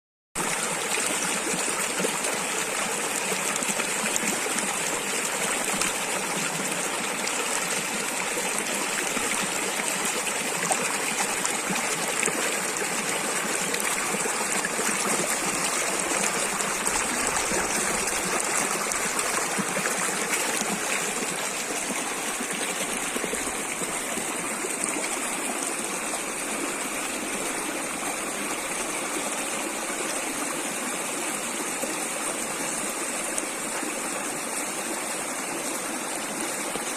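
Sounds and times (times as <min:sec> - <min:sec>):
running water rushing: 0:00.4 - 0:36.9.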